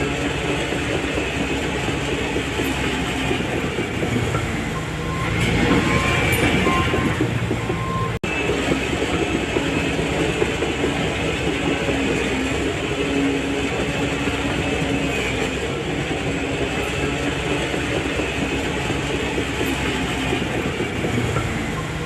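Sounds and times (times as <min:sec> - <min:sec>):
bulldozer diesel engine running: 0:00.0 - 0:22.0
steel tracks clanking: 0:00.0 - 0:22.0.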